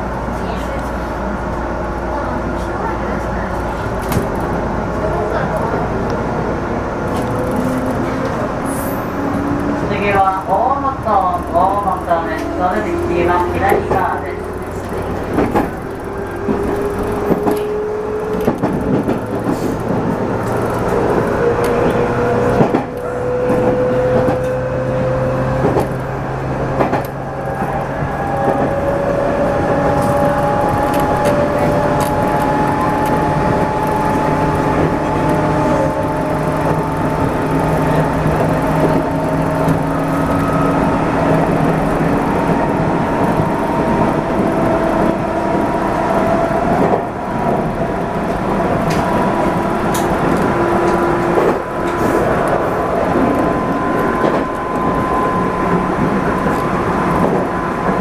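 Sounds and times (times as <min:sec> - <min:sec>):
wheel and rail rumble: 0:00.0 - 0:58.0.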